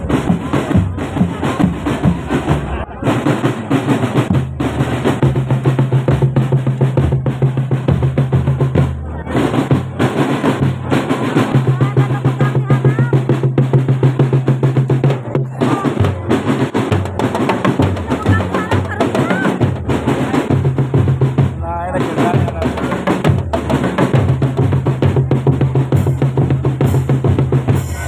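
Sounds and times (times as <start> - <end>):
bass drums beating: 0.0 - 28.0
snare drums beating: 0.0 - 28.0.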